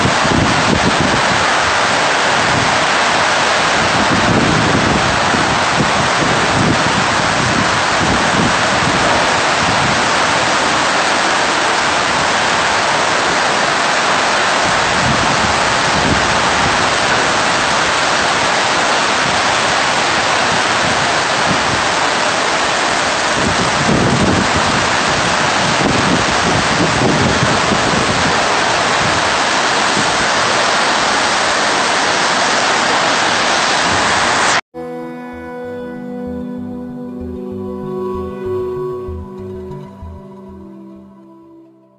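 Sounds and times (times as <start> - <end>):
heavy rain on pavement: 0.0 - 34.6.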